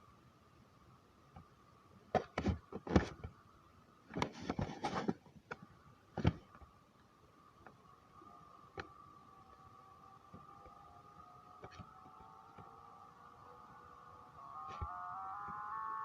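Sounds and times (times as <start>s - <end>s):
faint steady high hum: 0.0s - 16.0s.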